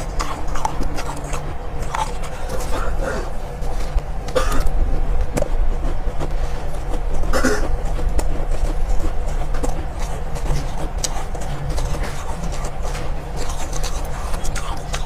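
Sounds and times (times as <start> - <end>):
chewing crunchy ice: 0.0 - 15.0
low rumble: 0.0 - 15.0.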